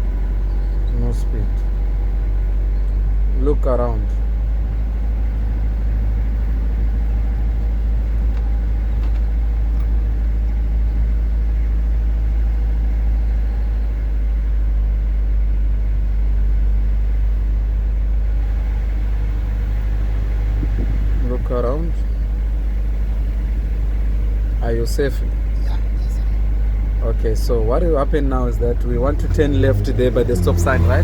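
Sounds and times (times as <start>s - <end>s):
car engine rumble: 0.0s - 31.0s
road noise: 0.0s - 31.0s.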